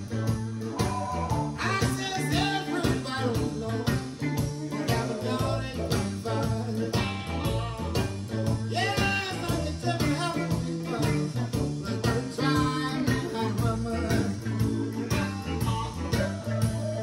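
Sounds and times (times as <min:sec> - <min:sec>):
bass: 0:00.0 - 0:17.0
guitar: 0:00.0 - 0:17.0
steady drum beat: 0:00.0 - 0:17.0
man singing: 0:00.8 - 0:17.0.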